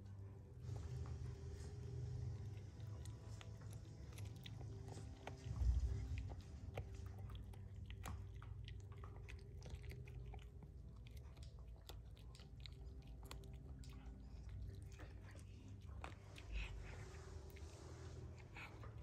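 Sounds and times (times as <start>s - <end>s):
dog gnawing on a bone: 0.6s - 19.0s.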